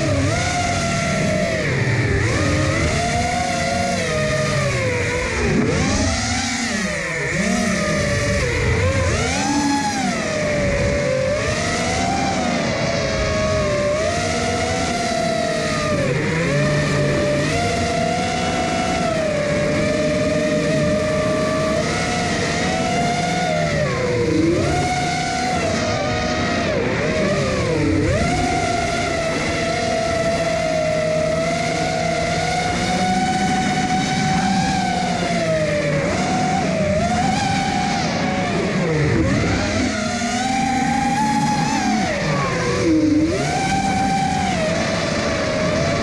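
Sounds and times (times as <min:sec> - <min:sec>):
drone motors whining: 0:00.0 - 0:46.0.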